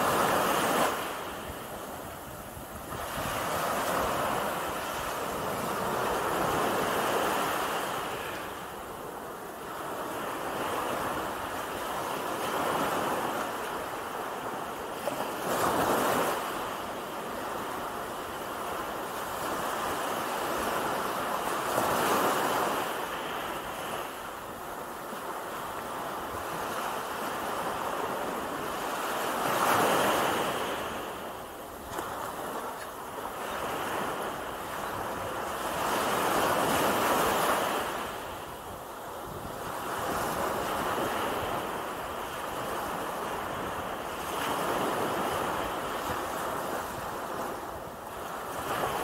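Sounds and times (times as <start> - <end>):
surf washing up the beach: 0.0 - 49.0.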